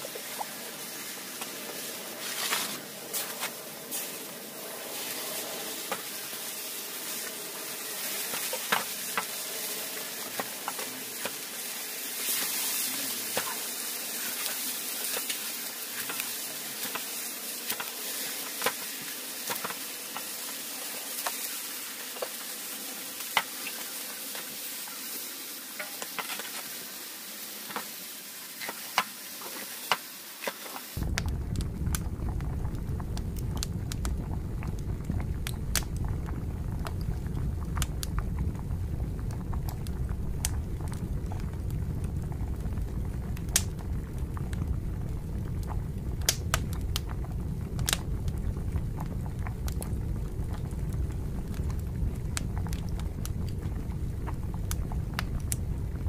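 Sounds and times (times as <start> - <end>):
campfire rumbling and crackling: 0.0 - 30.0, 30.7 - 56.0
steady hiss: 0.0 - 47.1.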